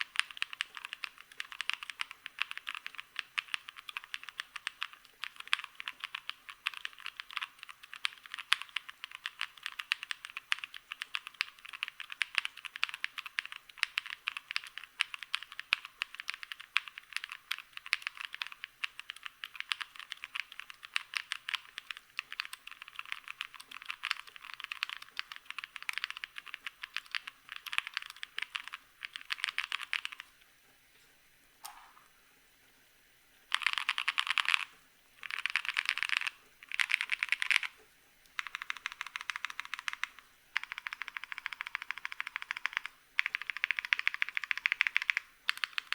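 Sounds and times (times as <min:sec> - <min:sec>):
fast typing on mechanical keyboard: 0:00.0 - 0:30.3, 0:33.5 - 0:37.8, 0:38.4 - 0:45.9.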